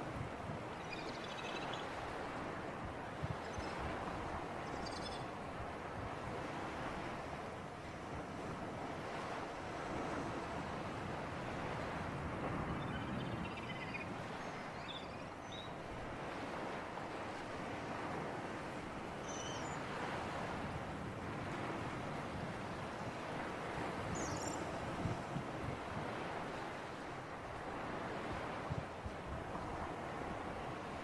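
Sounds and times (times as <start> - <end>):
sea breeze: 0.0 - 31.0
sea waves washing on shore: 1.8 - 31.0.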